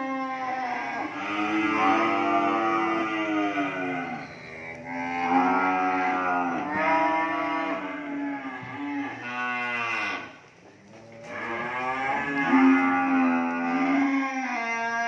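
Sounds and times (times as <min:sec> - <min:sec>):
calves mooing: 0:00.0 - 0:15.0.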